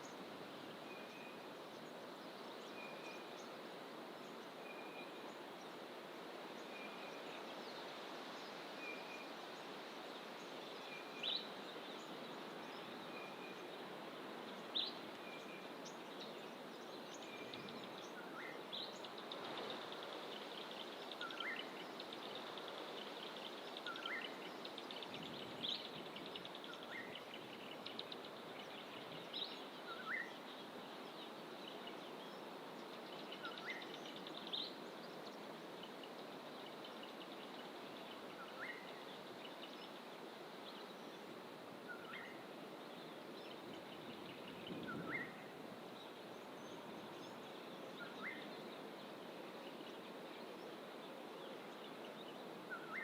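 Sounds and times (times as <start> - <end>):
steady background hiss: 0.0 - 53.0.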